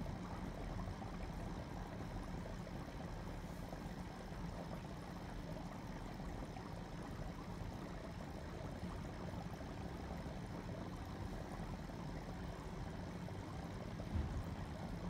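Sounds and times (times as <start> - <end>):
aquarium filter water flowing: 0.0 - 15.0.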